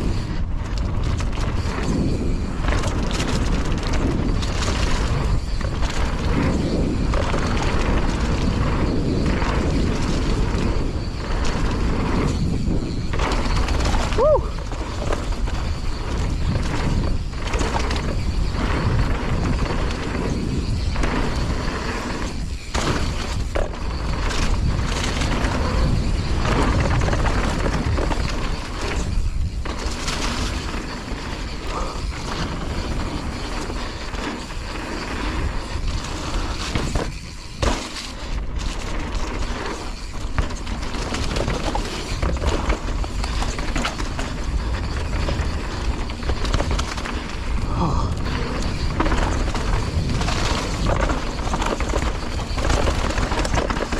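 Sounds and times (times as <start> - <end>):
bike rattling and knocking: 0.0 - 53.9
bike tyres rolling on dirt: 0.0 - 53.9
wind buffeting microphone: 0.0 - 53.9.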